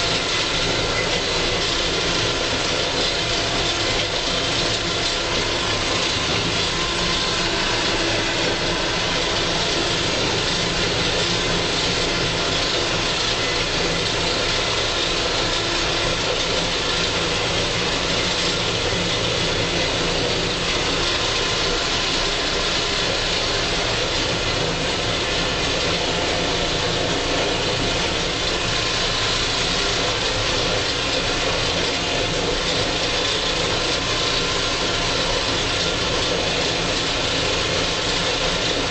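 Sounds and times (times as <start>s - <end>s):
mower cutting grass: 0.0s - 38.9s
tractor diesel engine running: 0.0s - 38.9s.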